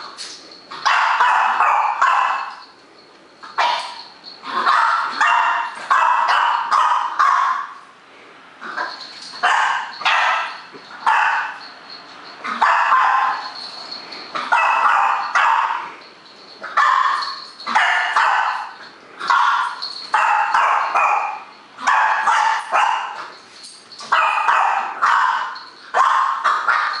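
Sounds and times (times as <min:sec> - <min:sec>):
dog barking: 0:00.7 - 0:02.7, 0:03.5 - 0:07.8, 0:08.7 - 0:11.7, 0:12.4 - 0:13.6, 0:14.4 - 0:16.0, 0:16.6 - 0:23.4, 0:24.0 - 0:27.0.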